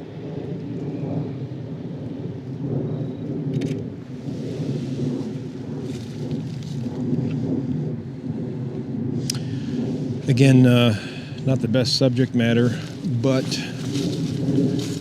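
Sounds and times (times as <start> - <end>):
wind buffeting microphone: 0.0 - 15.0
crackling rustle: 0.4 - 15.0.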